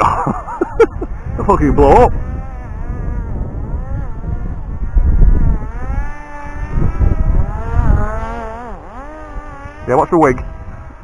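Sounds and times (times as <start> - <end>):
drone motors and propellers whining: 0.0 - 11.0
wind buffeting microphone: 0.0 - 11.0.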